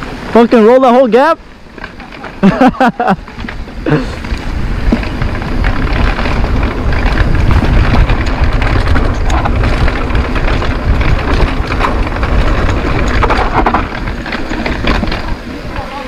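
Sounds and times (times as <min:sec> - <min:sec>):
tyres rumbling on dirt: 0:00.0 - 0:16.0
wind rushing over microphone: 0:00.0 - 0:16.0.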